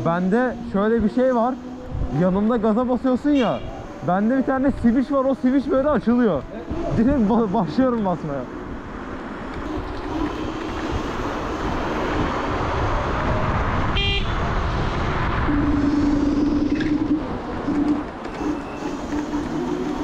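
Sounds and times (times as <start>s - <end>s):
road noise: 0.0s - 20.0s
rushing wind: 0.0s - 20.0s.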